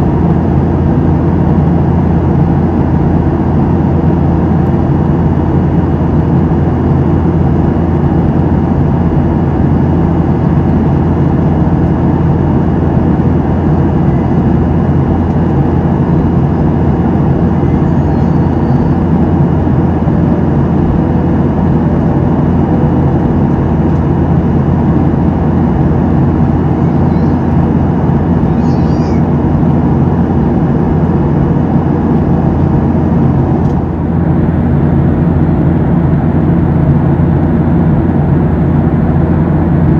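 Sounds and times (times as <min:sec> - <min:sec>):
airplane cabin engine drone: 0:00.0 - 0:39.9
constant low hum: 0:00.0 - 0:39.9.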